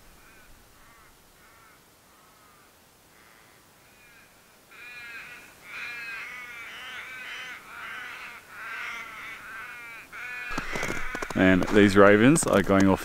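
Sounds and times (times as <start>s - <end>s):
ravens cawing: 0.0s - 11.9s.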